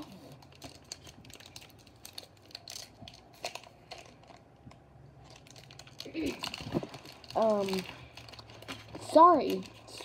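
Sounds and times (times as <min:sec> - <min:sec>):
foil wrapper crinkling: 0:00.2 - 0:10.0.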